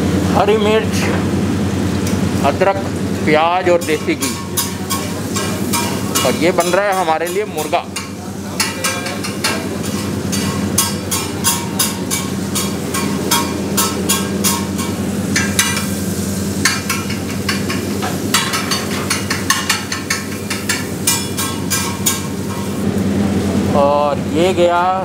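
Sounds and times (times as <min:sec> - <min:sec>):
steady low hum: 0:00.0 - 0:25.0
onions sizzling in ghee: 0:03.0 - 0:23.0.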